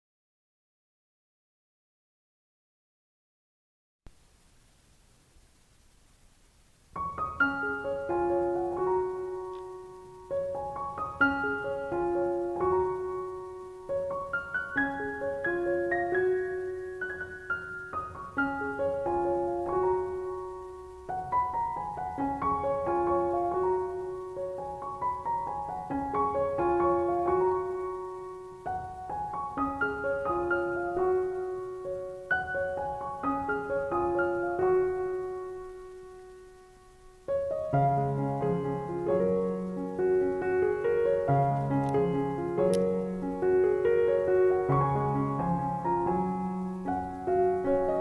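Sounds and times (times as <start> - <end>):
gentle piano music: 6.9 - 48.0.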